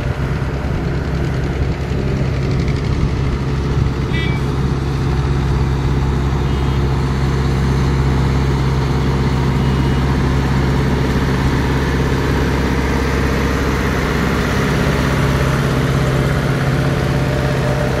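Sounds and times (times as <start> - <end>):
heavy machinery engine drone: 0.0 - 18.0.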